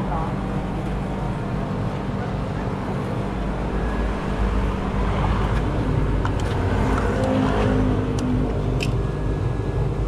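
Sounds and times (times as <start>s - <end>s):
low road rumble: 0.0s - 10.0s
vehicle engine running: 0.0s - 10.0s.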